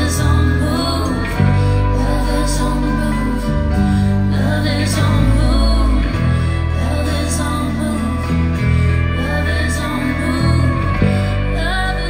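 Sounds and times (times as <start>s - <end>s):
deep bass notes: 0.0s - 12.0s
live band with singing: 0.0s - 12.0s.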